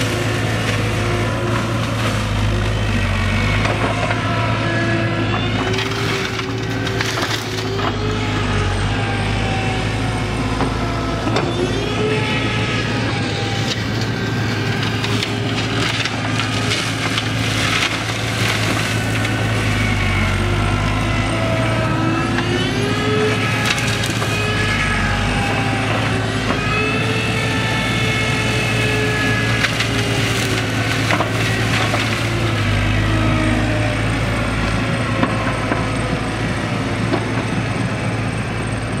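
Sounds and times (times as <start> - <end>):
excavator engine hum: 0.0 - 39.0
flail mulcher running: 0.0 - 39.0.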